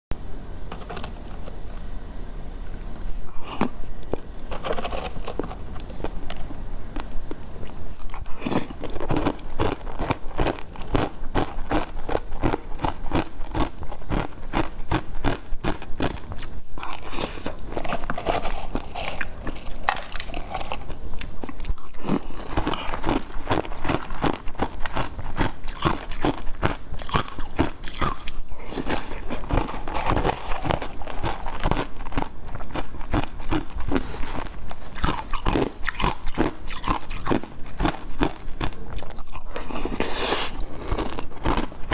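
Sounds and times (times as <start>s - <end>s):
person biting and chewing: 2.9s - 41.9s.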